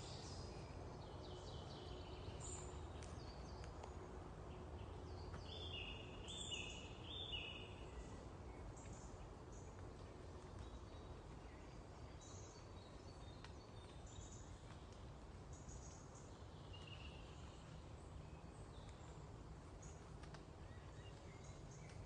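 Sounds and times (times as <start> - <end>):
faint songbirds chirping: 0.0 - 22.0
low background noise: 0.0 - 22.0.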